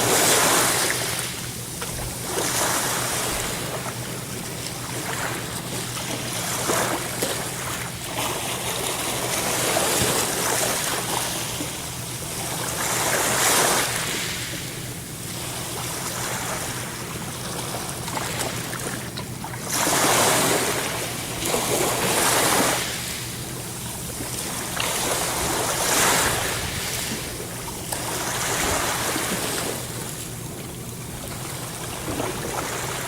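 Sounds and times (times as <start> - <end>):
ocean waves breaking on shore: 0.0 - 33.0.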